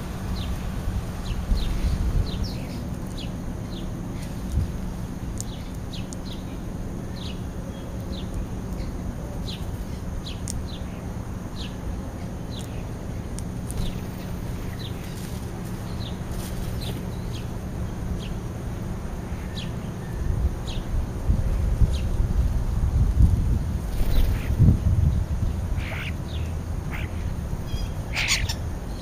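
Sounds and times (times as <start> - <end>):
sparrows chirping: 0.0 - 22.2, 23.9 - 29.0
steady low rumble: 0.0 - 29.0.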